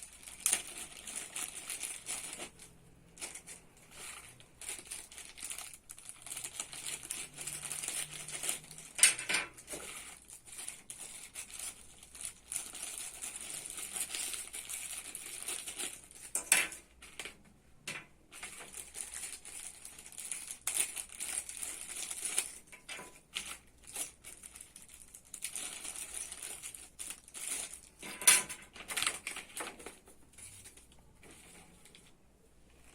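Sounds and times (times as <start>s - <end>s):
packaging crinkling and rustling: 0.0s - 17.4s, 18.3s - 32.9s.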